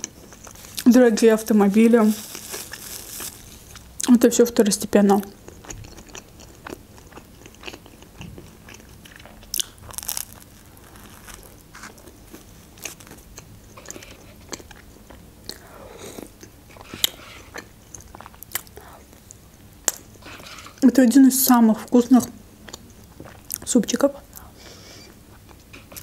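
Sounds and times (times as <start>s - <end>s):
person chewing crunchy food: 0.0s - 0.9s, 1.8s - 4.1s, 5.1s - 20.8s, 22.6s - 23.7s, 24.3s - 26.0s.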